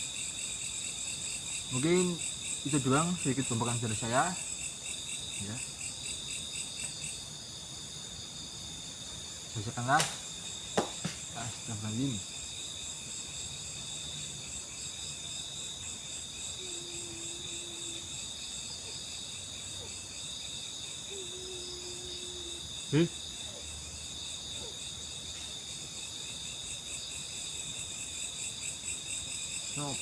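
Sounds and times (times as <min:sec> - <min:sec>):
crickets and insects chirring: 0:00.0 - 0:30.0.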